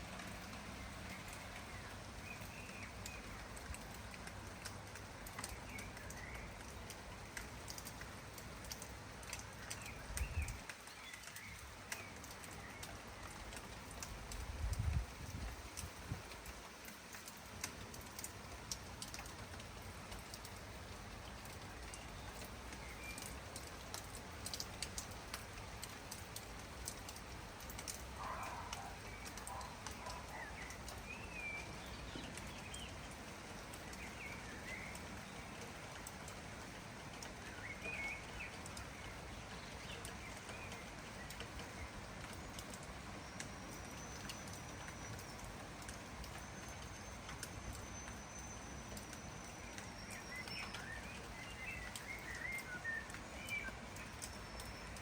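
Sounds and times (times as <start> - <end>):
sharp raindrop ticks: 0.0 - 55.0
steady rain falling: 0.0 - 55.0.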